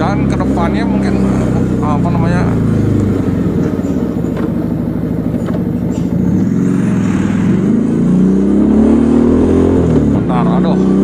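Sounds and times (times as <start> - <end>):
motorcycle engine accelerating: 0.0 - 11.0
road noise: 0.0 - 11.0.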